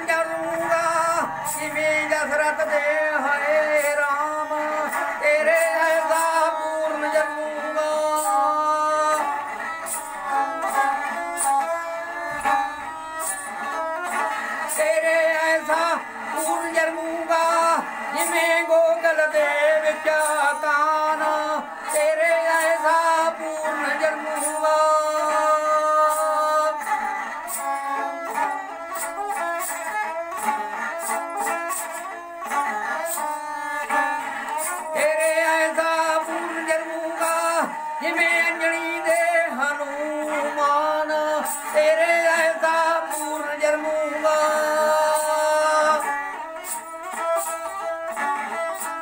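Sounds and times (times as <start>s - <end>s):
bowed sarangi: 0.0s - 49.0s
man singing in a high voice: 0.0s - 49.0s.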